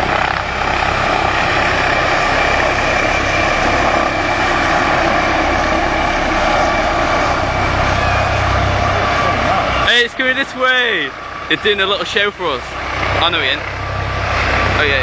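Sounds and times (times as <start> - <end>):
helicopter rotor noise: 0.0 - 15.0
high turbine whine: 0.0 - 15.0.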